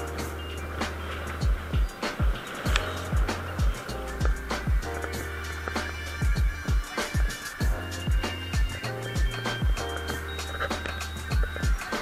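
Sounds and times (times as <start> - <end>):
music with deep bass drum beat: 0.0 - 12.0.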